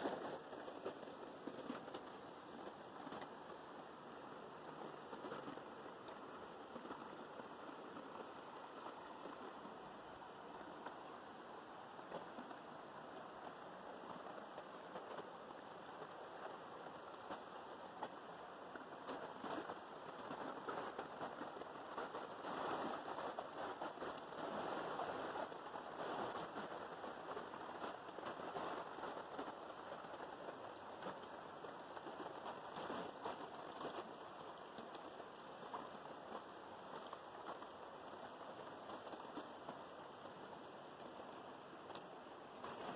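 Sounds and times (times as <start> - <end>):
river water rushing and splashing: 0.0 - 42.9.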